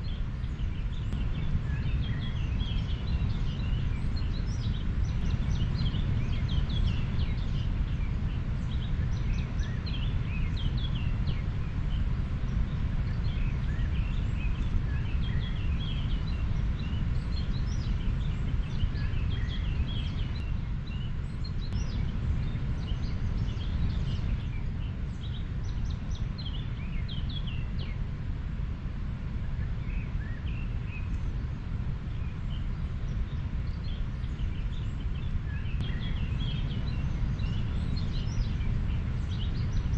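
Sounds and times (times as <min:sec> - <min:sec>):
small birds chirping: 0:00.0 - 0:28.1, 0:29.3 - 0:39.9.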